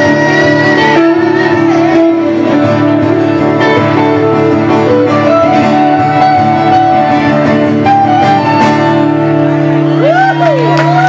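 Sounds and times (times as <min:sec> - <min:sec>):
held melody notes: 0:00.0 - 0:10.0
acoustic guitar strumming: 0:00.0 - 0:11.0.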